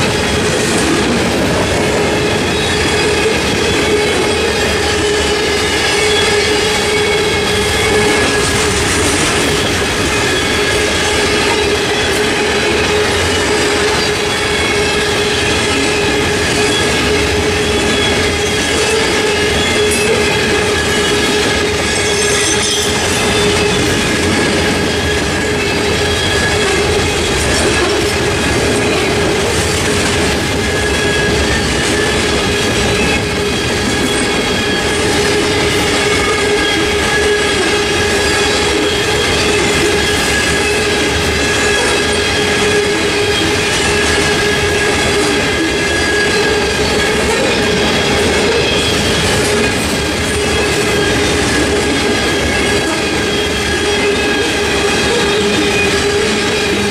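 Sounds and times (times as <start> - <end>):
train wheels clattering on rails: 0.0 - 56.9
steady ringing tone: 2.0 - 56.9.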